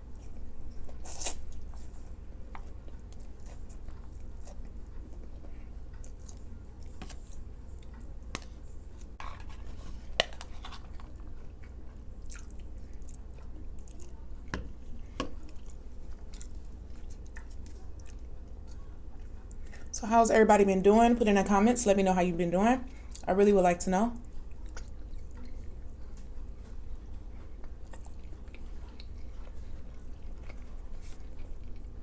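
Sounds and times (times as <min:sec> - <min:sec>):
chewing with wet mouth sounds: 0:00.0 - 0:19.9, 0:24.2 - 0:32.0
steady low hum: 0:00.0 - 0:32.0.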